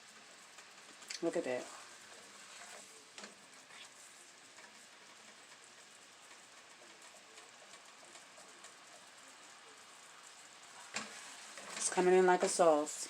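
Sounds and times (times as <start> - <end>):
sauce sizzling in a pan: 0.0 - 13.0.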